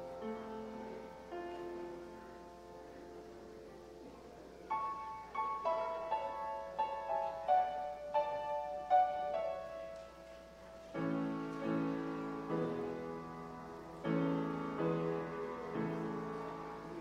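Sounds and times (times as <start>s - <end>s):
grand piano slow piece: 0.0s - 17.0s.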